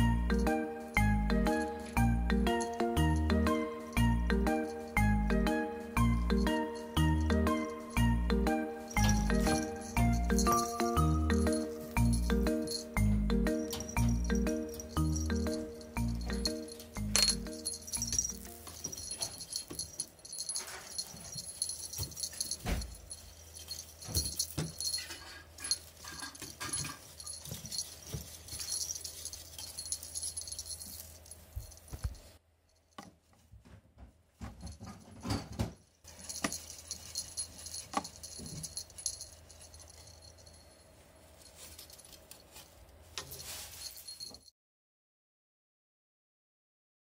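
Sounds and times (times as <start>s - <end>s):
small bell jingling: 0.0s - 33.0s, 36.1s - 44.5s.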